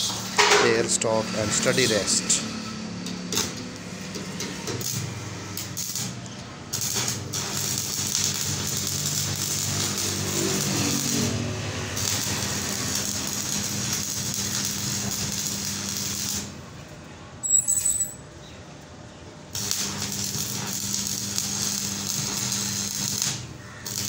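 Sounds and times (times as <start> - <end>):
welding arc crackling and hissing: 0.0 - 2.6, 3.3 - 16.6, 19.5 - 24.0
constant electrical hum: 0.0 - 24.0.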